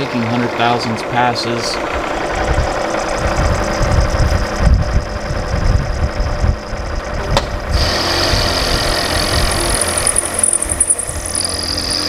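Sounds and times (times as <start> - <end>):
high whine of cutting: 0.0 - 12.0
milling machine rumble: 0.0 - 12.0.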